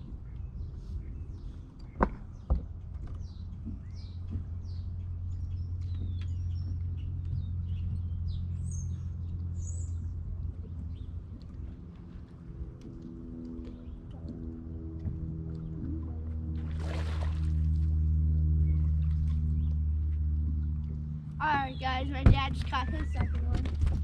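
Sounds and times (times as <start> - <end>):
songbirds chirping: 0.0 - 16.5, 18.0 - 23.9
low rumble: 0.0 - 24.0.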